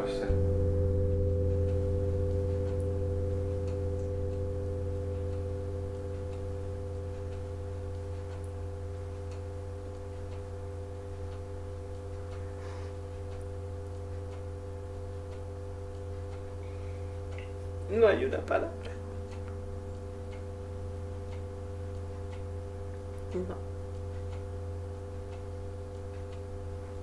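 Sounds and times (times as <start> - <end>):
low ringing tone: 0.0 - 24.9
clock ticking: 0.0 - 27.0.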